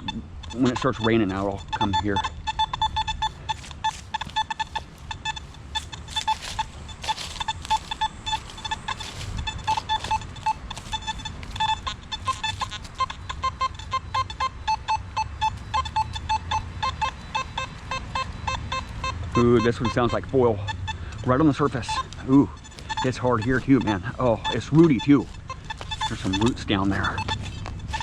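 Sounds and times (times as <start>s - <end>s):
metal detector beeping: 0.0s - 28.0s.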